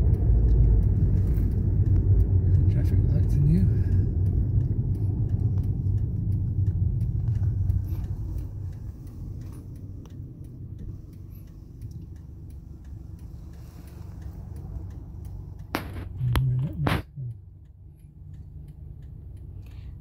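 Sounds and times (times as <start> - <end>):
car interior road rumble: 0.0 - 20.0
regular faint ticks: 0.0 - 20.0.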